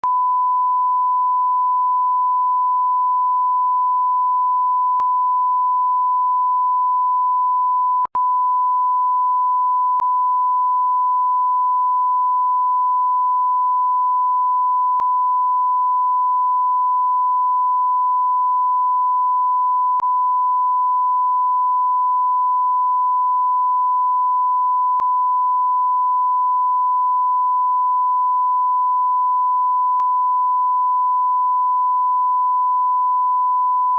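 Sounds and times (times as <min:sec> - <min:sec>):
censor bleep tone: 0:00.0 - 0:33.9.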